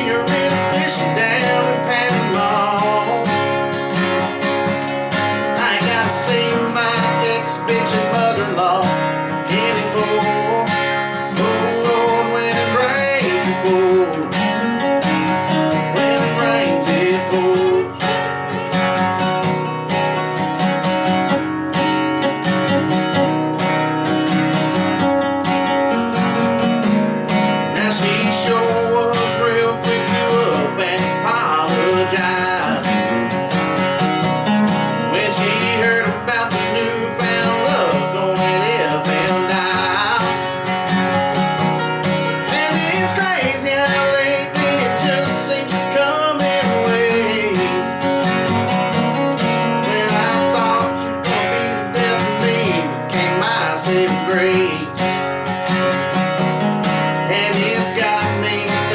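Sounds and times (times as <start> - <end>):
acoustic guitars strummed: 0.0 - 58.9
man singing country song: 0.0 - 58.9.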